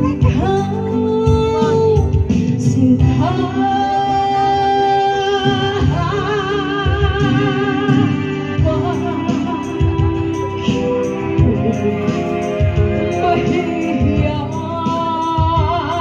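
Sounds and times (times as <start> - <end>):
instrumental accompaniment: 0.0 - 16.0
woman singing with vibrato: 0.0 - 16.0.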